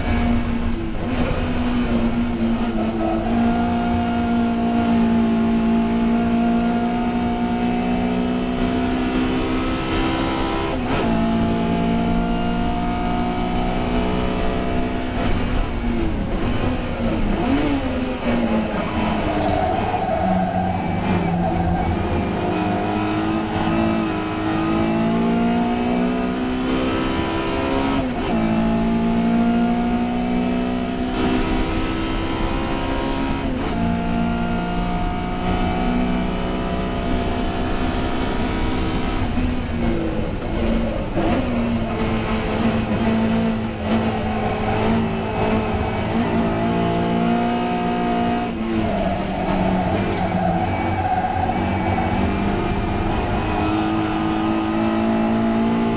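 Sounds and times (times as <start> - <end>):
race car engine accelerating: 0.0 - 55.9.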